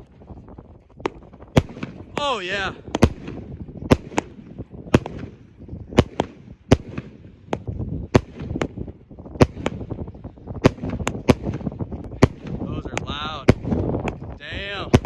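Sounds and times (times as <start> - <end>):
firework cake bangs: 1.0 - 10.0, 10.6 - 15.0.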